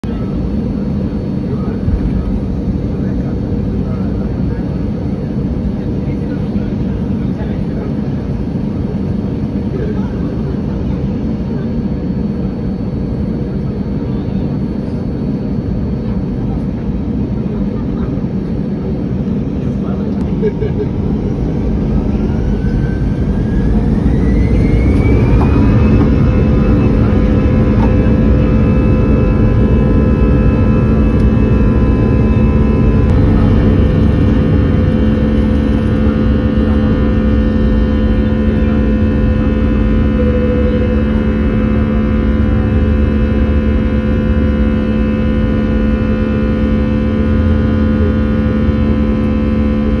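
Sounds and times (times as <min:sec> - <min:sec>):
jet engine whine: 0:00.0 - 0:50.0
low engine rumble: 0:00.0 - 0:50.0.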